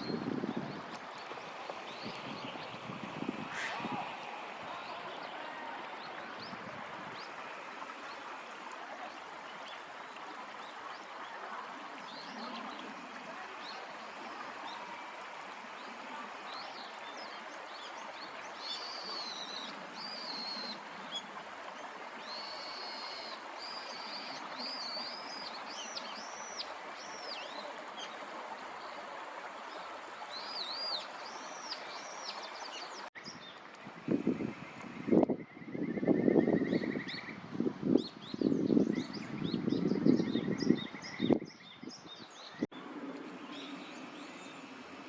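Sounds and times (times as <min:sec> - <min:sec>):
flowing water: 0:00.0 - 0:45.0.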